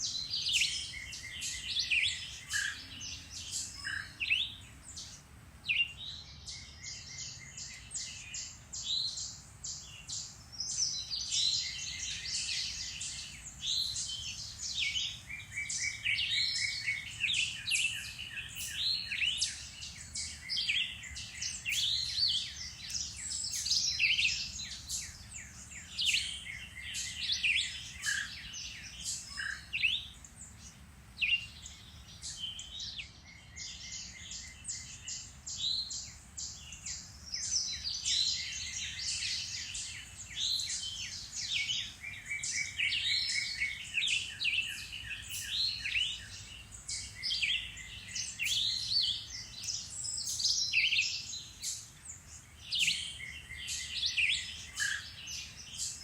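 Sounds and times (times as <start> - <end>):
songbird chorus: 0.0 - 56.0.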